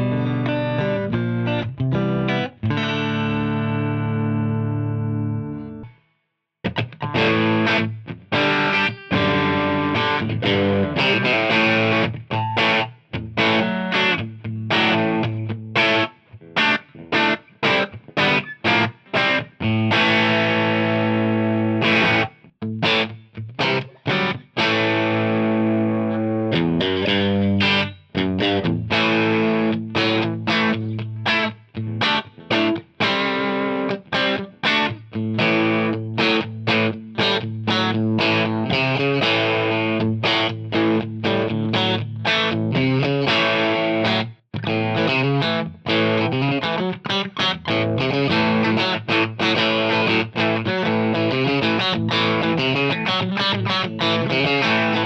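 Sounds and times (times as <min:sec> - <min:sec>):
distorted electric guitar chords: 0:00.0 - 0:05.9, 0:06.6 - 0:55.0.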